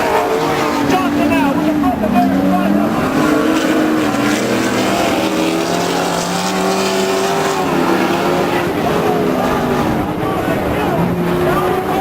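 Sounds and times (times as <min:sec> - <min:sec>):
race truck engines revving: 0:00.0 - 0:12.0.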